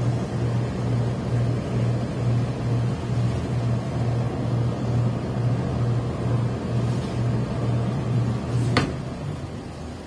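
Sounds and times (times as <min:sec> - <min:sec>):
pulsing low hum of steam equipment: 0:00.0 - 0:10.0.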